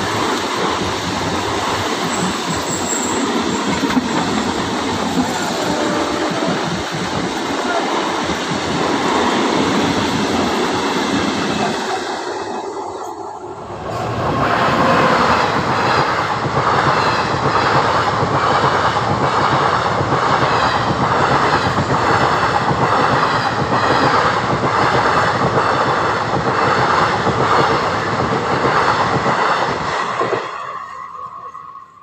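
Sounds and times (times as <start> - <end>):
train wheels rushing on rail: 0.0 - 32.0.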